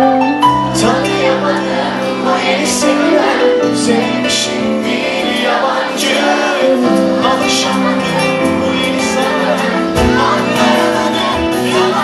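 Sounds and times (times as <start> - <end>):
live pop band: 0.0 - 12.0
man singing: 0.0 - 12.0.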